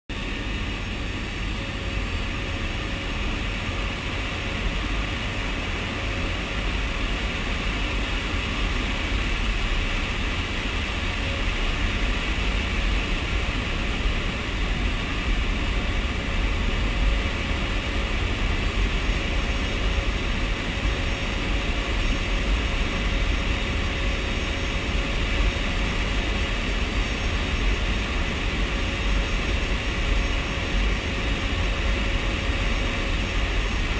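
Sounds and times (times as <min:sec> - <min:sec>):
turboprop engines droning: 0:00.1 - 0:33.9.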